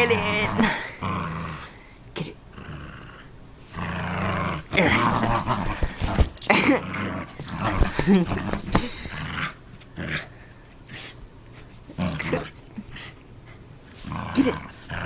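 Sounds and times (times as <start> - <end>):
dog growling in play: 0.0 - 10.4, 11.9 - 13.2, 14.0 - 15.0.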